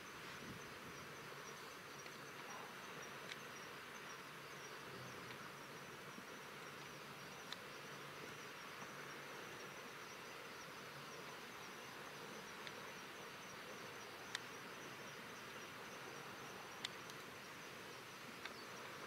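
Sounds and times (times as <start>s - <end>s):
insects trilling: 0.0s - 19.0s
soft hiss: 0.0s - 19.0s
small ticks: 0.9s - 19.0s.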